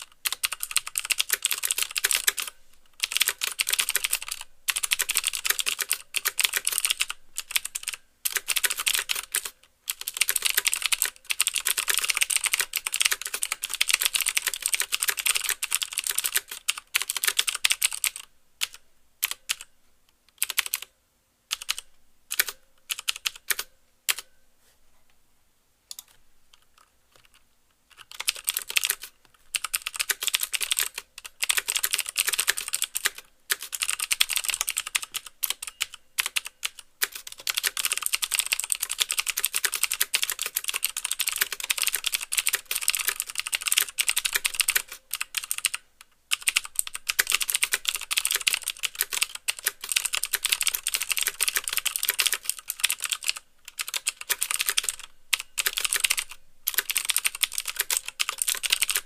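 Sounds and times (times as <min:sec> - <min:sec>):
typing on mechanical keyboard: 0:00.0 - 0:19.7, 0:20.4 - 0:20.9, 0:21.5 - 0:24.3, 0:25.9 - 0:59.0.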